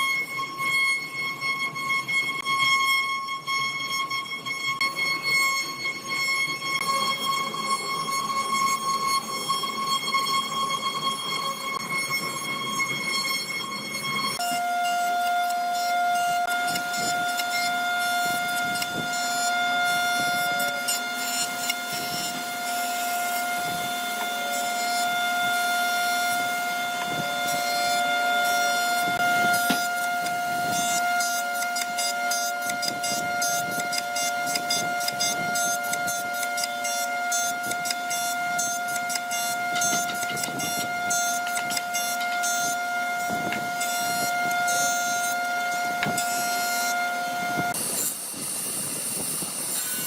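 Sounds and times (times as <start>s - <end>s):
machine high whine: 0.0s - 50.0s.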